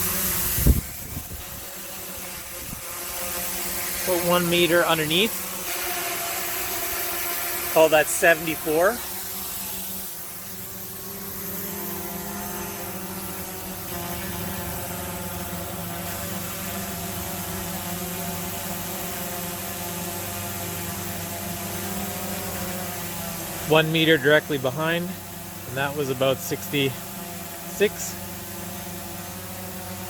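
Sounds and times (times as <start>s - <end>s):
drone propellers buzzing: 0.0s - 30.0s.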